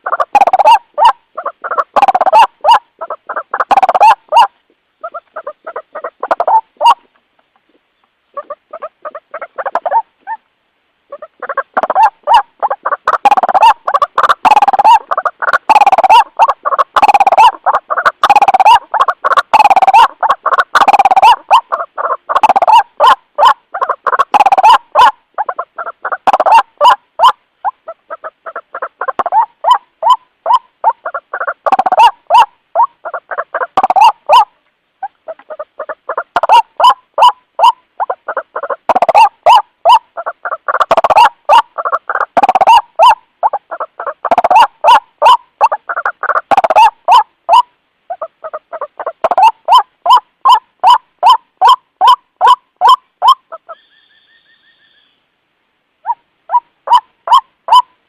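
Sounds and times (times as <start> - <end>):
waterhen rapid repeated calls: 0.0 - 10.5, 11.1 - 55.3, 56.0 - 58.0.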